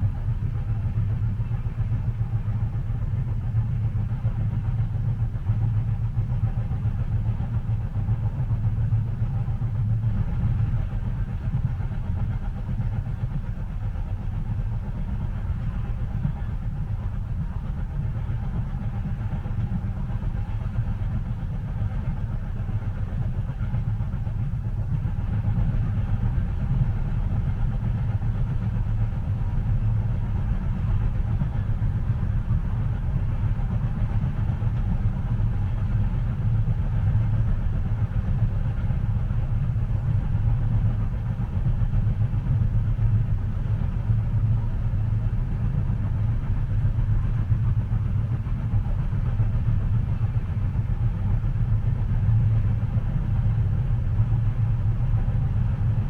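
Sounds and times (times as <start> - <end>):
train rumbling inside carriage: 0.0 - 56.0.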